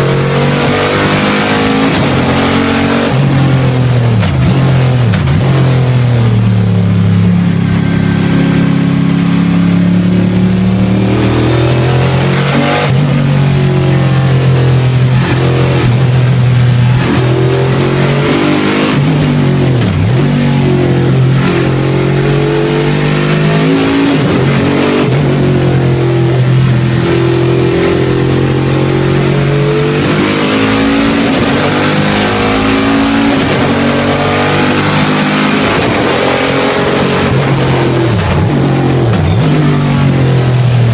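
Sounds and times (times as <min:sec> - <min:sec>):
racing engine revving through gears: 0:00.0 - 0:40.9.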